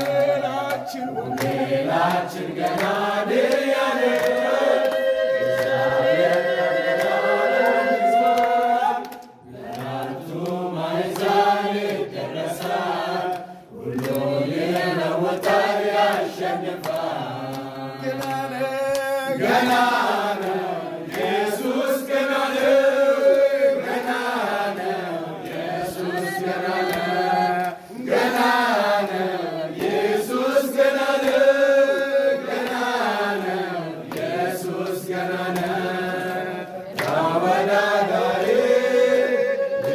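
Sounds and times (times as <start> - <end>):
group singing a gospel hymn: 0.0 - 39.9
hand clapping: 0.0 - 39.9.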